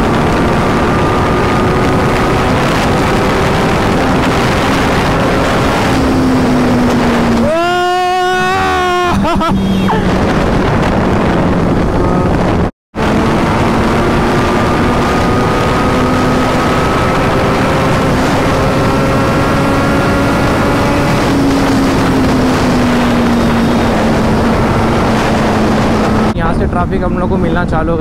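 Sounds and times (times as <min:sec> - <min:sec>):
motorcycle engine pulling hard: 0:00.0 - 0:26.4
wind noise on microphone: 0:00.0 - 0:28.0.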